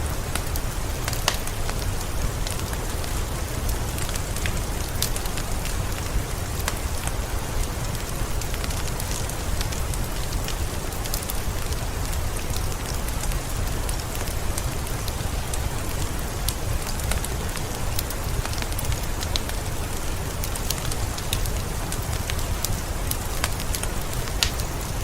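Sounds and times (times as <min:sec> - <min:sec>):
steady rain: 0:00.0 - 0:25.0
wood fire crackling: 0:00.0 - 0:25.0.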